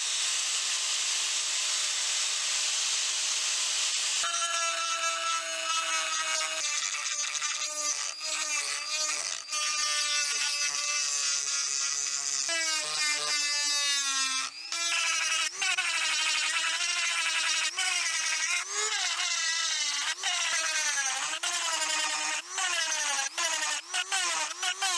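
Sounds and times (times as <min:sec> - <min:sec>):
rotary tool grinding metal: 0:00.0 - 0:24.9.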